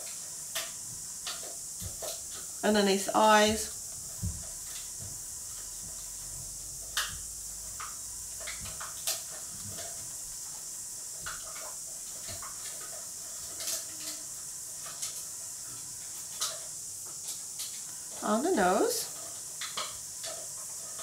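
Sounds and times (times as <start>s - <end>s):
recording hiss: 0.0s - 21.0s.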